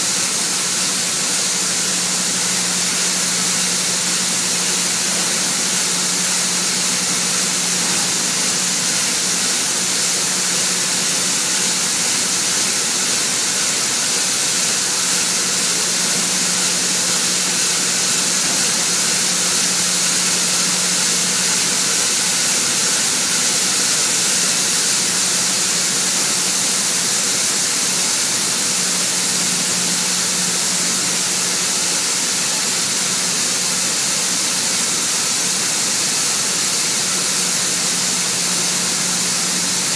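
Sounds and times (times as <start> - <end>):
machinery loud hiss: 0.0 - 39.9.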